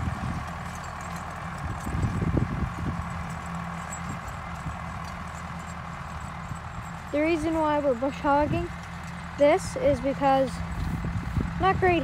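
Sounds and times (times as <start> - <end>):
tractor running: 0.0 - 12.0.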